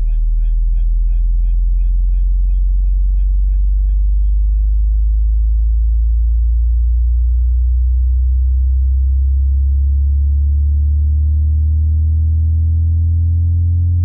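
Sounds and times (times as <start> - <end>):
deep bass sine sweep: 0.0 - 14.0.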